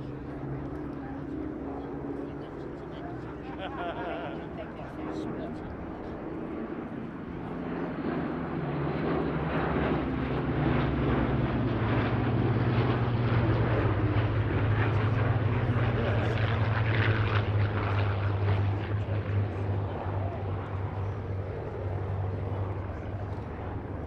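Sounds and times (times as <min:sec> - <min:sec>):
propeller aircraft engines droning: 0:00.0 - 0:24.0.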